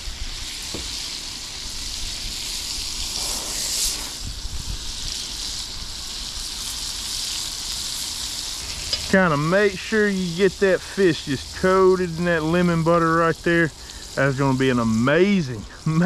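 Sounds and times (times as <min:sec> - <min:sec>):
fish sizzling in a skillet: 0:00.0 - 0:16.0.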